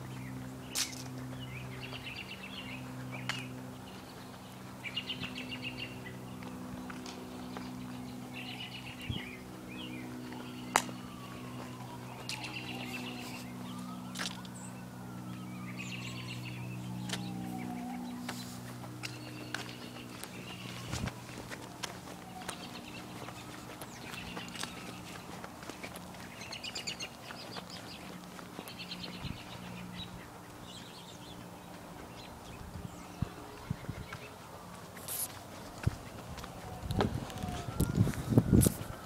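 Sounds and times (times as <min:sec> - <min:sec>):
small birds chirping: 0:00.0 - 0:38.1
steady low hum: 0:00.0 - 0:39.0.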